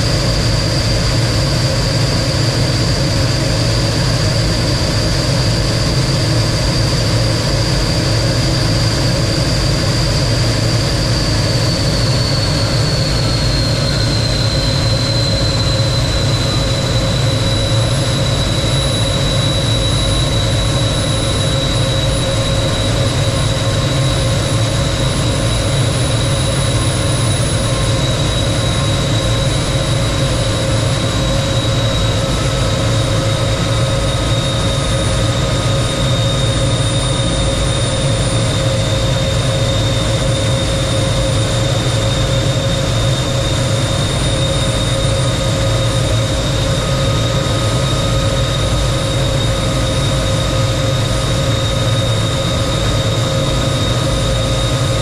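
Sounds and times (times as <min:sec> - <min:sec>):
jet engine rush and whine: 0:00.0 - 0:55.0.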